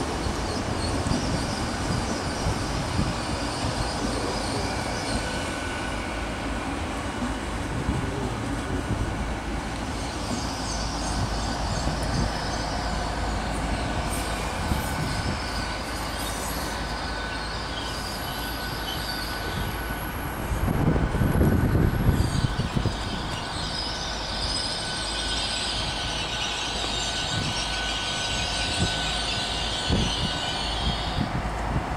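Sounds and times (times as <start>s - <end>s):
train wheels rumbling on rails: 0.0s - 31.9s
high wheel squeals: 0.2s - 6.3s, 9.9s - 20.6s, 21.3s - 31.4s.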